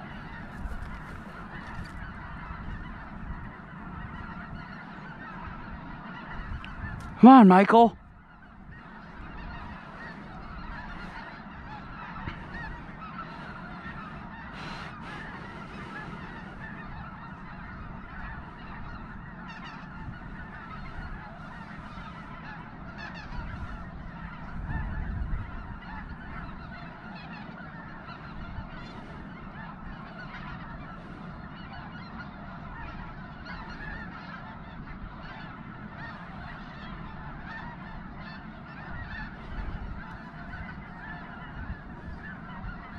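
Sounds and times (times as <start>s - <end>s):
flock of geese honking: 0.0s - 42.9s.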